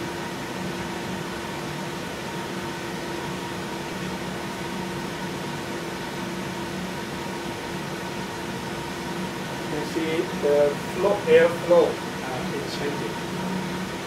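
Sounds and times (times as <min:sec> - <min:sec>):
ventilation fan rushing air: 0:00.0 - 0:14.0.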